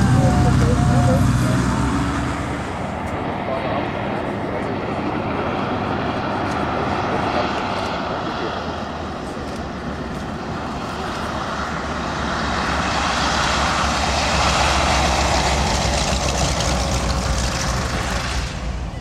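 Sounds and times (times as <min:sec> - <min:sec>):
propeller aircraft engine passing: 0:00.0 - 0:19.0.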